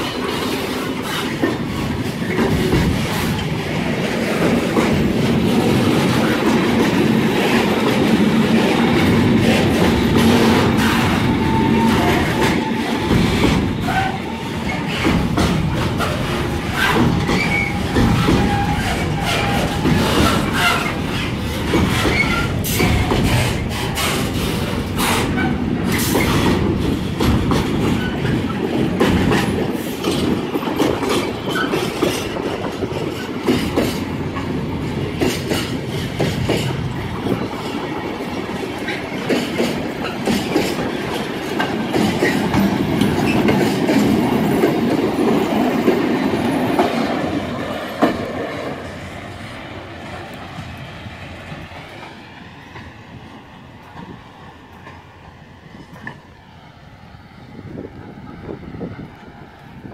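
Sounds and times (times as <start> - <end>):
freight wagons rumbling: 0.0 - 52.0
wheels clacking over rail joints: 0.0 - 56.2.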